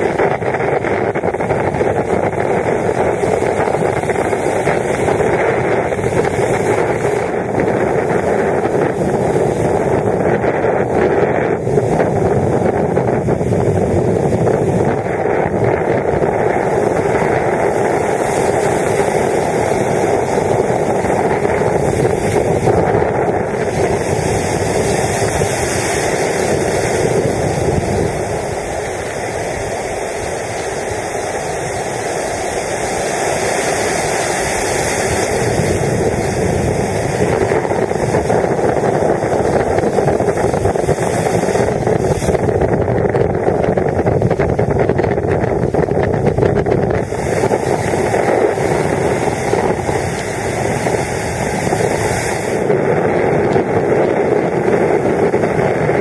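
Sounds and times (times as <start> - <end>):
breaking surf: 0.0 - 56.0
wind buffeting microphone: 0.0 - 56.0.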